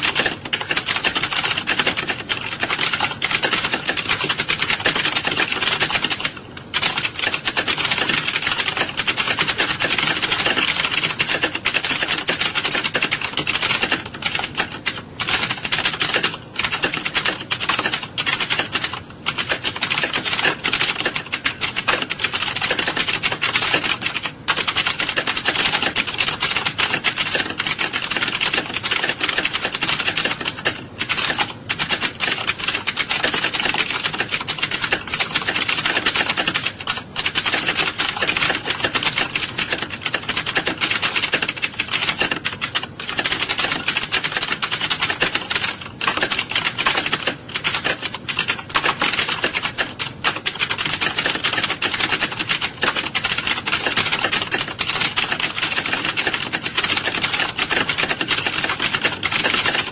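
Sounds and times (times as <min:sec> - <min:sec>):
keyboards typing clatter: 0:00.0 - 0:59.9.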